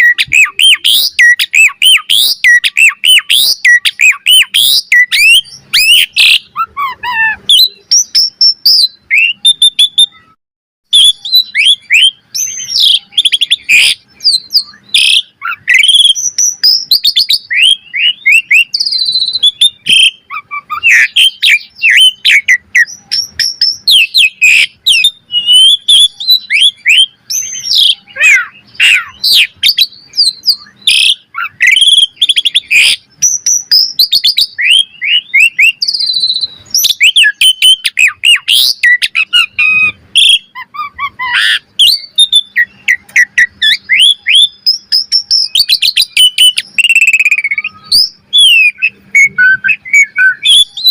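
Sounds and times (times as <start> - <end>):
starling singing: 0.0 - 50.9.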